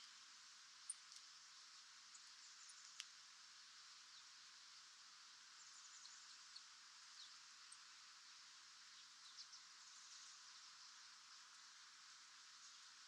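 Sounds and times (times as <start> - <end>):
faint hiss: 0.0 - 13.0.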